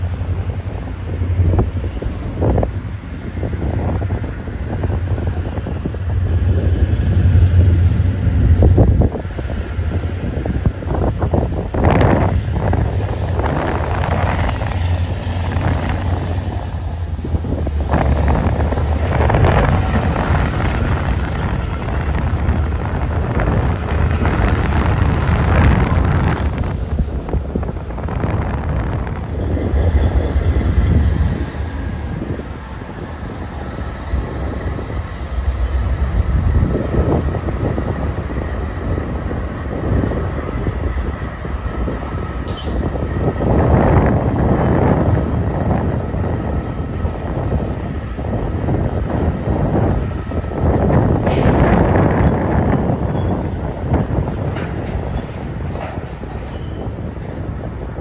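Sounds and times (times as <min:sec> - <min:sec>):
locomotive steady tone: 0:00.0 - 0:58.0
train wheels rumbling and clattering: 0:00.0 - 0:58.0.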